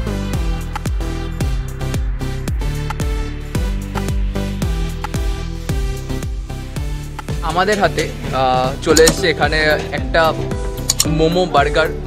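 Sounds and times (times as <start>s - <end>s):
electronic dance music: 0.0s - 11.8s.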